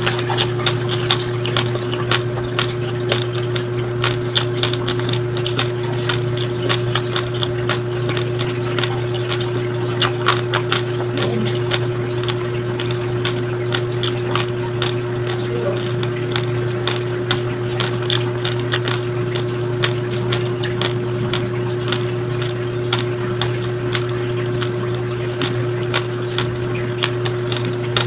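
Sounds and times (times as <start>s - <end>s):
rice grains crunching when chewed: 0.0s - 28.0s
steady low hum: 0.0s - 28.0s.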